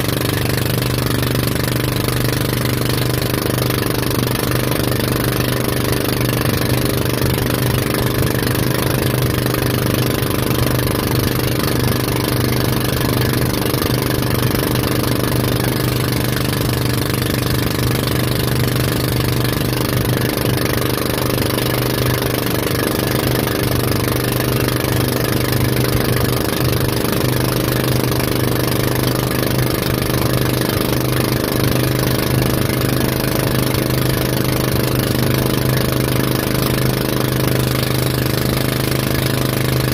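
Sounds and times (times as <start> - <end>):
boat engine humming: 0.0 - 39.9
water rushing: 0.0 - 39.9
wind: 0.0 - 39.9.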